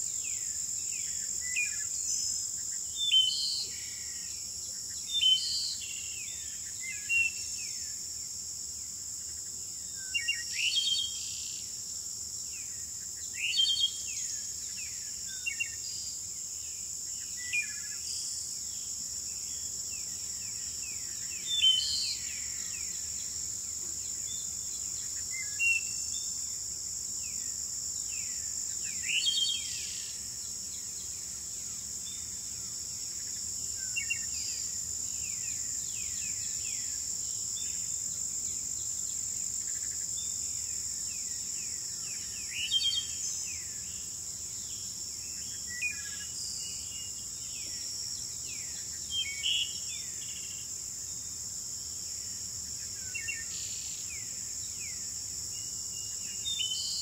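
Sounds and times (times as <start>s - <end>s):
insect trill: 0.0s - 57.0s.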